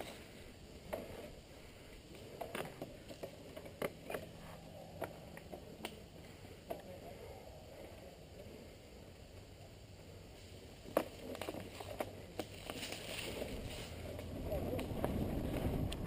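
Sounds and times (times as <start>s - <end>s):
bike clicks and scuffs: 0.0s - 8.2s, 10.2s - 16.0s.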